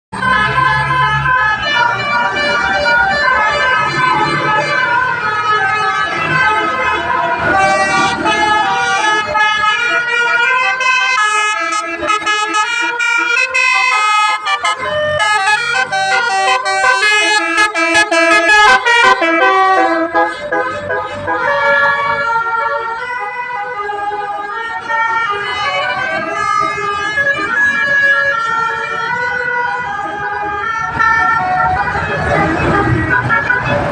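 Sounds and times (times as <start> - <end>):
bus musical air horn melody: 0.2 - 27.6, 29.4 - 33.9.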